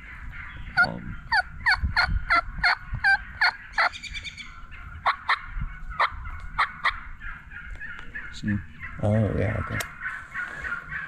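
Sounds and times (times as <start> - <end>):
wild turkeys calling: 0.0 - 11.0.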